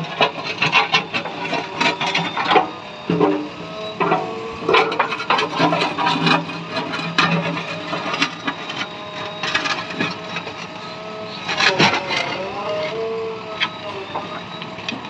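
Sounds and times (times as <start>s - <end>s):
diesel engine running: 0.0s - 15.0s
steel bucket scraping road: 0.0s - 15.0s.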